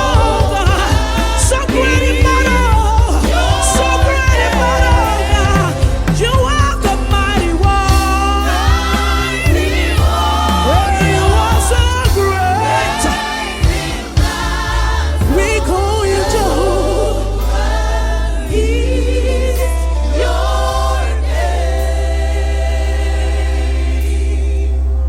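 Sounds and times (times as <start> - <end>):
band with deep bass: 0.0 - 25.0
gospel choir singing: 0.0 - 25.0.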